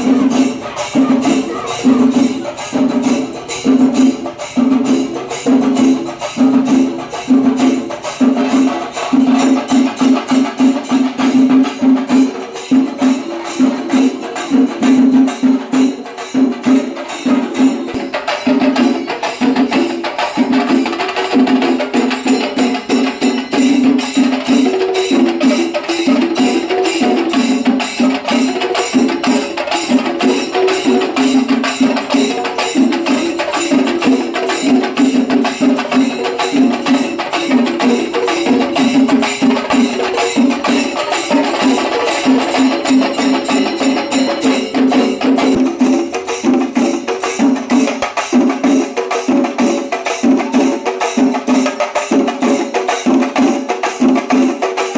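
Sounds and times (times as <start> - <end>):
fast percussion with melody: 0.0 - 54.9.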